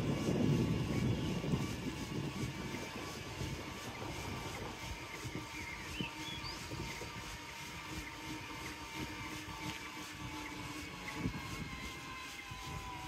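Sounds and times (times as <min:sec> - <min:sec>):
faint motor whine: 0:00.0 - 0:13.0.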